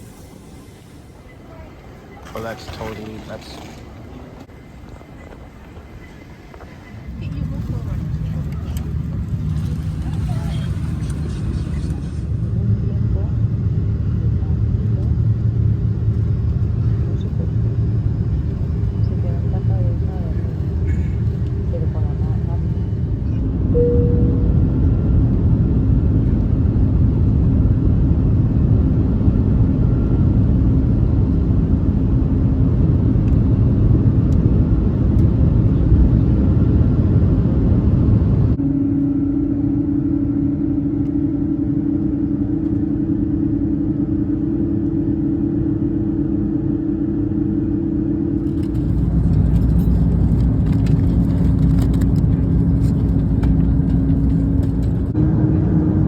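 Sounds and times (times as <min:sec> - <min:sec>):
vehicle rumble in motion: 0:00.0 - 0:56.0
steady hum: 0:07.7 - 0:56.0.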